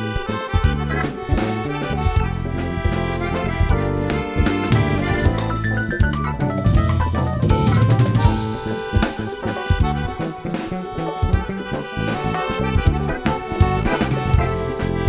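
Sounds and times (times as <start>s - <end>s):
live band playing: 0.0s - 15.0s
snare and bass drum: 0.7s - 15.0s.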